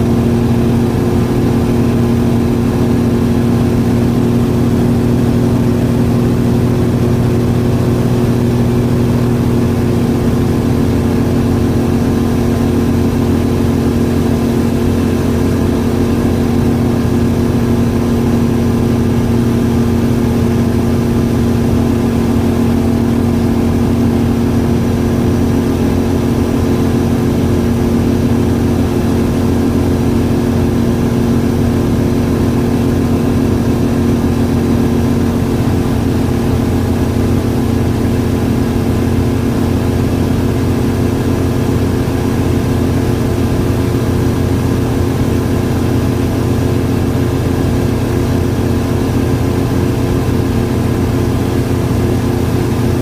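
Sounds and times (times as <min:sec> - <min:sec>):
aircraft engine and propeller droning: 0:00.0 - 0:53.0.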